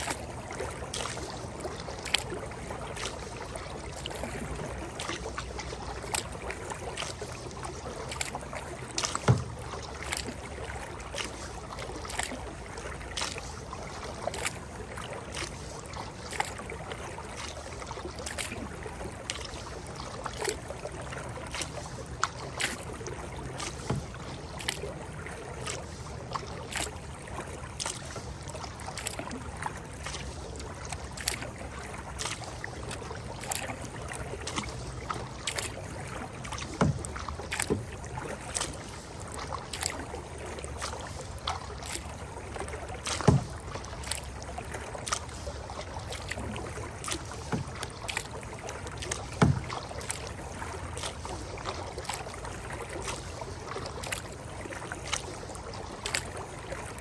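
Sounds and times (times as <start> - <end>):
kayak paddle strokes: 0.0 - 57.0
water wash: 0.0 - 57.0
wind: 0.0 - 57.0.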